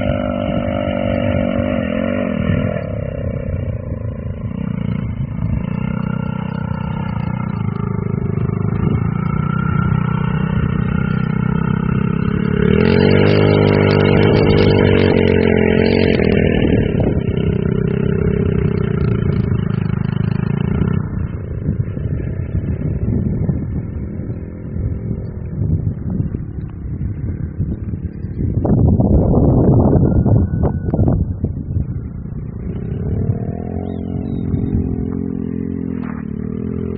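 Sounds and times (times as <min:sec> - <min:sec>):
off-road vehicle engine revving: 0:00.0 - 0:26.6, 0:28.0 - 0:36.9.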